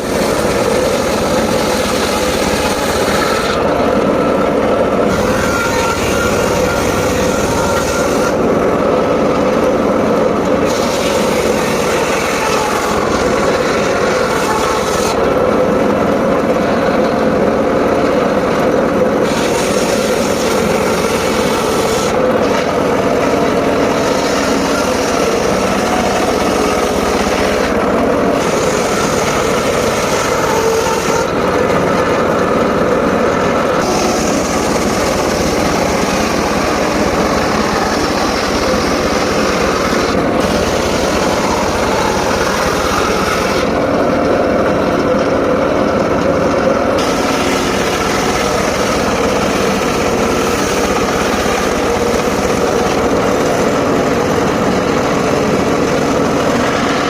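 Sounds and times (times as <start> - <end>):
saw blade rasping through wood: 0.0 - 45.4, 46.5 - 57.0
sawmill machine drone: 0.0 - 57.0.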